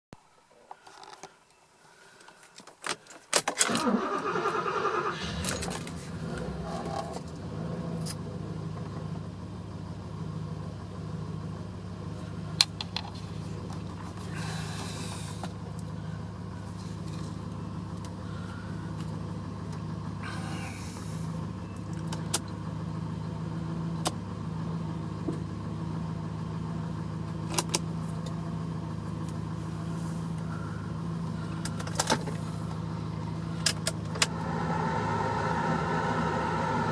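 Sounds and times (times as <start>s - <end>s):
car engine starting and idling: 3.3s - 36.9s.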